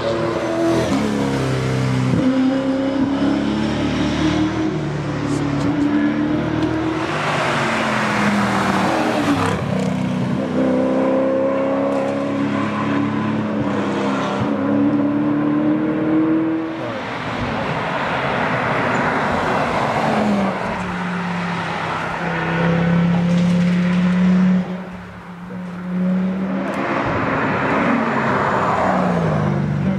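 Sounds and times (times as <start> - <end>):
rally cars at full throttle: 0.0 - 29.9.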